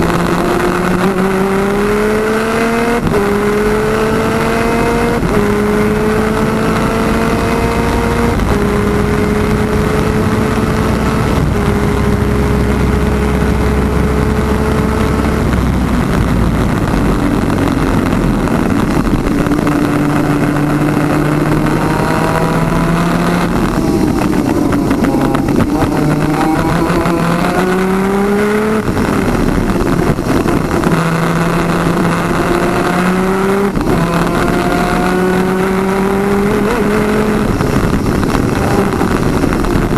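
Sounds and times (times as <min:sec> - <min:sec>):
two-stroke kart engine racing: 0:00.0 - 0:39.9
wind rush: 0:00.0 - 0:39.9.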